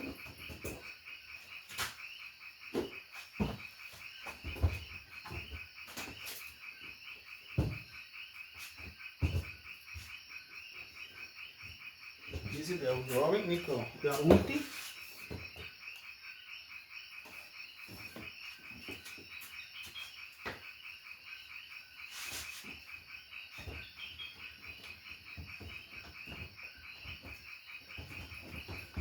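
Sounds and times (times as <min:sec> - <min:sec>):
frogs calling: 0:00.0 - 0:29.0.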